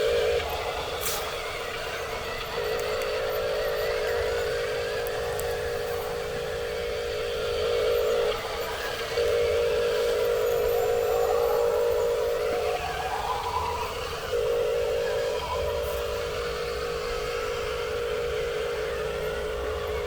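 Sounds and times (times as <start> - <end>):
fainter rising whine: 0.0 - 20.0
toy electric motor whining: 0.0 - 20.0.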